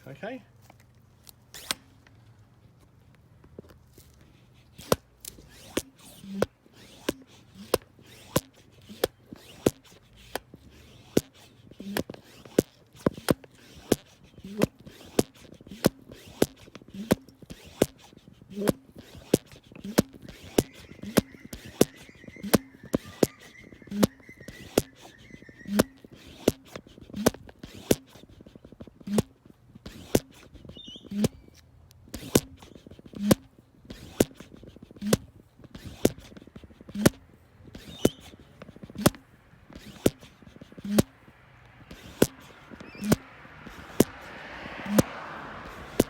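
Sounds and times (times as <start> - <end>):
hand pump click and thump: 4.7 - 44.2, 45.7 - 46.0.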